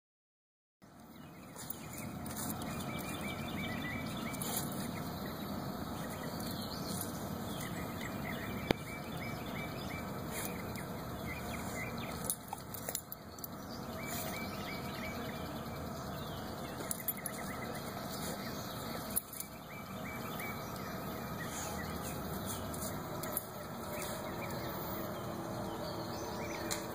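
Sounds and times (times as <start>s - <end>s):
small birds chirping: 0.9s - 26.9s.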